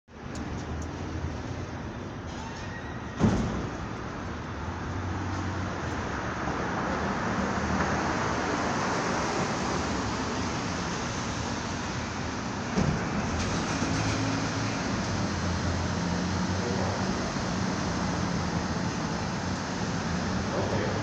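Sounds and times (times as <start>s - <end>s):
traffic rumbling in tunnel: 0.1s - 21.0s.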